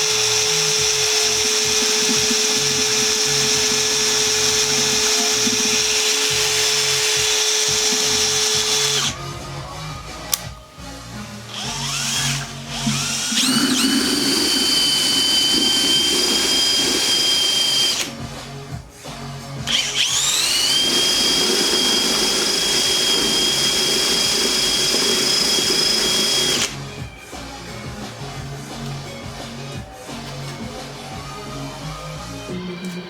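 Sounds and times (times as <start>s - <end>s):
cordless drill whining: 0.0s - 19.0s, 19.6s - 30.0s.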